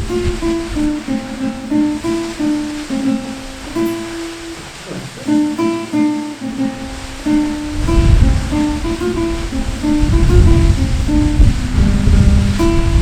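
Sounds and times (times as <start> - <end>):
slow acoustic guitar music: 0.0 - 13.0
water rushing: 0.0 - 13.0.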